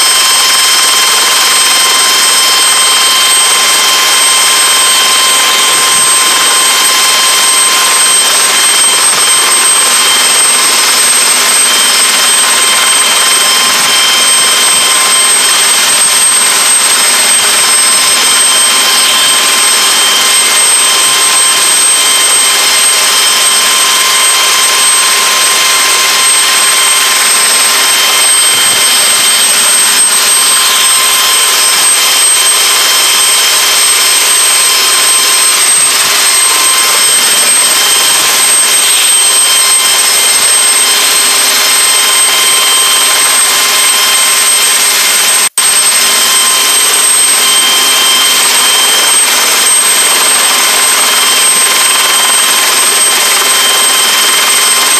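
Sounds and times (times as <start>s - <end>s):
turbine engine hiss and whine: 0.0s - 54.9s.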